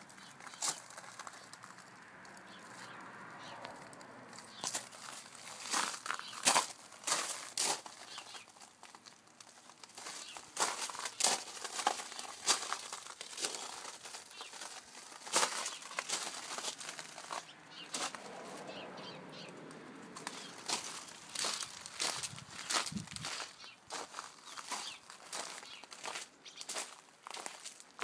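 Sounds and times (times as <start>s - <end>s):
footsteps crunching on gravel: 0.1s - 19.5s, 20.2s - 28.0s.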